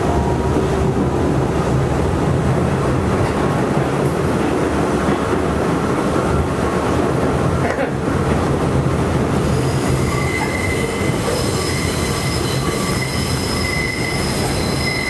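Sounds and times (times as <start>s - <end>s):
subway car rumbling at speed: 0.0s - 15.0s.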